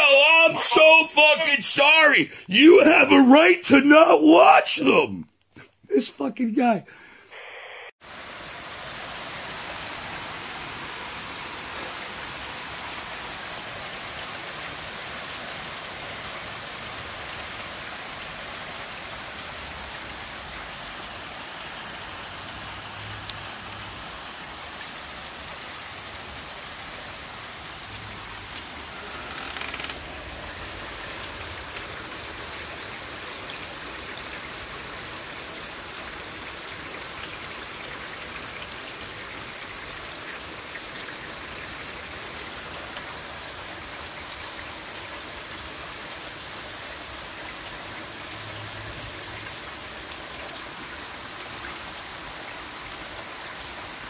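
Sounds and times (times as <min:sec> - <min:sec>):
heavy rain falling: 0:00.0 - 0:03.4, 0:08.0 - 0:54.0.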